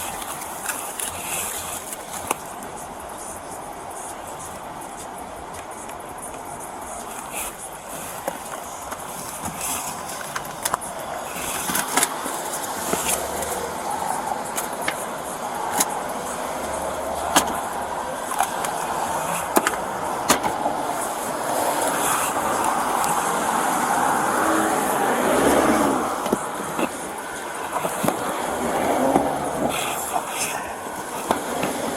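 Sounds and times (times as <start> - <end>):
road traffic rushing: 0.0 - 31.9.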